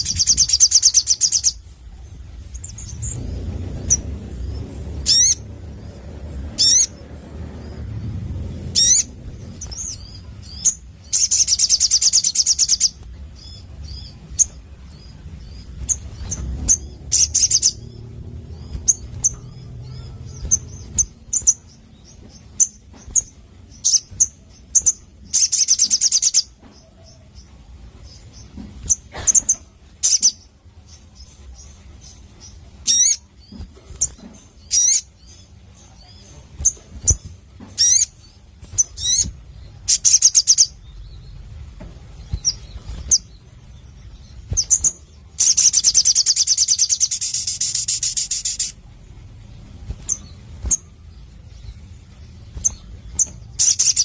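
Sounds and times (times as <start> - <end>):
bird chirping and trilling: 0.0 - 54.0.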